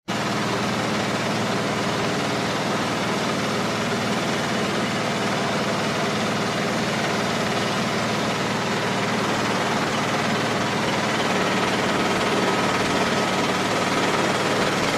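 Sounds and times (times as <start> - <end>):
diesel engine running: 0.1 - 14.9.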